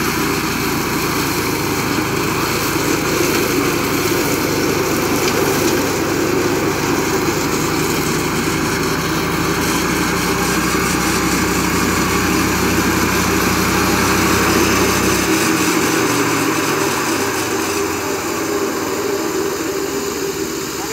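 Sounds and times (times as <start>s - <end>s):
flail mower droning: 0.0s - 20.9s.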